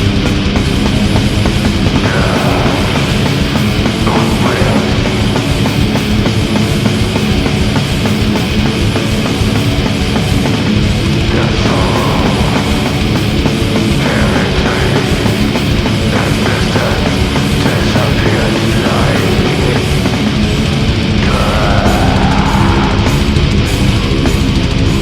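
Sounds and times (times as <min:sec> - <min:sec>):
heavy metal music: 0:00.0 - 0:25.0.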